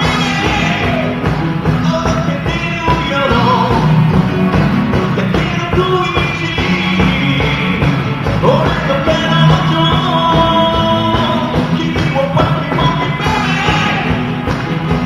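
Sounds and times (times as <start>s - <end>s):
person singing: 0.0s - 14.4s
drums: 0.0s - 15.0s
rock band playing: 0.0s - 15.0s.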